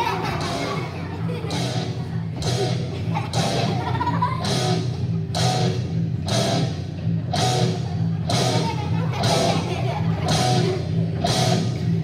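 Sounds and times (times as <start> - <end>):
heavy drum beat: 0.0 - 12.0
loud rock music: 0.0 - 12.0.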